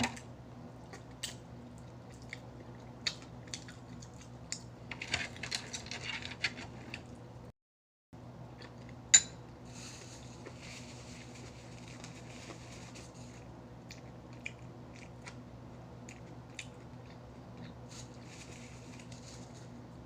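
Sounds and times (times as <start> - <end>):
crunchy chewing of fried chicken: 0.7 - 7.2, 9.8 - 20.0.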